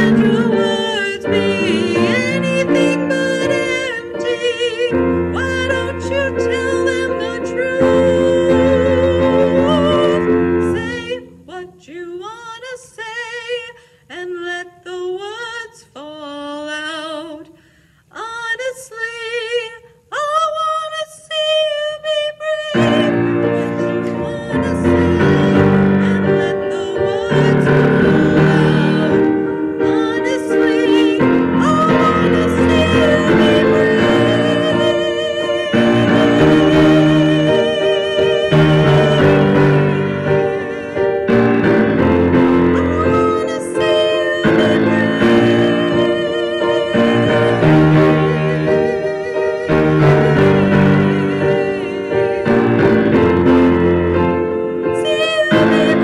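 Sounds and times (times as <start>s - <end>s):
piano accompaniment: 0.0s - 11.8s, 21.5s - 56.0s
woman singing with vibrato: 0.0s - 56.0s.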